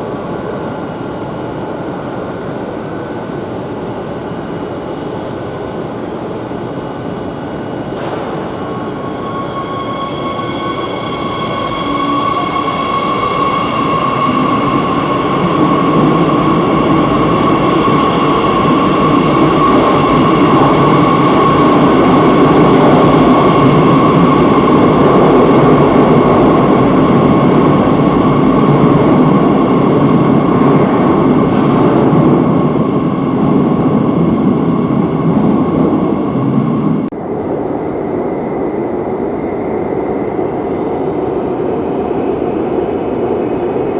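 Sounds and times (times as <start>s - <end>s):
train wheels rumbling on rail: 4.3s - 43.9s.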